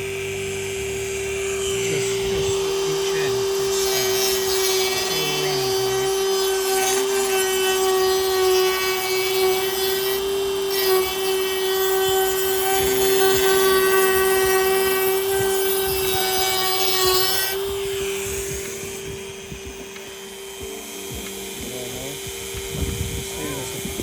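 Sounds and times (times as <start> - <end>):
power tool grinding whine: 0.0 - 24.0.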